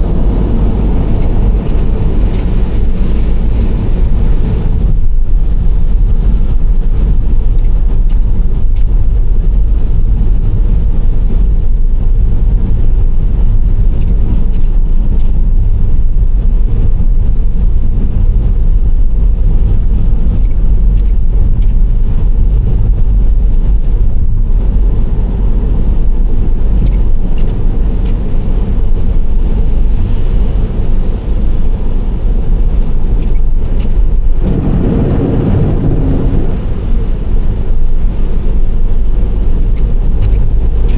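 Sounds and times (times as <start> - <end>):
road rumble of tyres and engine: 0.0 - 40.9.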